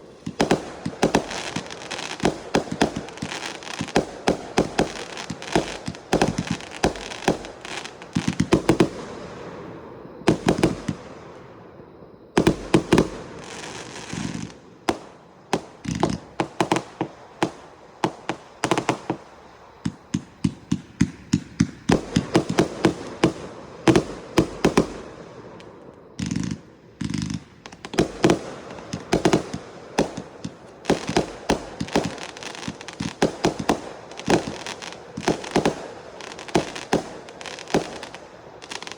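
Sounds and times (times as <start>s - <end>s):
firework cake firing volleys: 0.0s - 9.3s, 12.4s - 38.9s.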